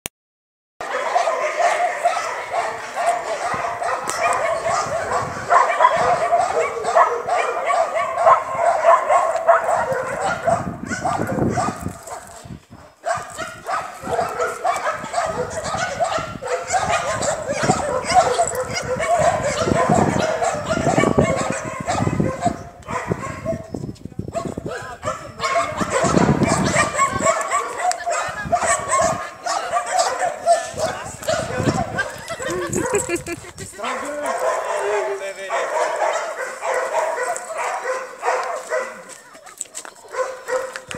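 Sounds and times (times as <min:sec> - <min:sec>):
many dogs barking: 0:00.8 - 0:40.9.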